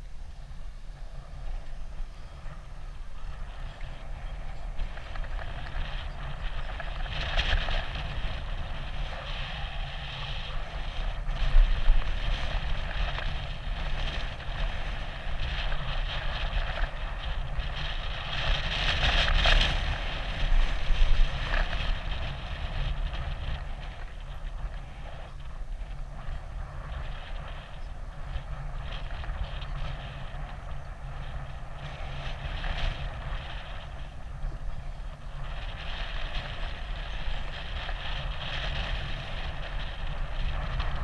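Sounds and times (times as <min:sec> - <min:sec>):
low rumble of bicycle ride: 0:00.0 - 0:41.0
wind rushing over microphone: 0:00.0 - 0:41.0.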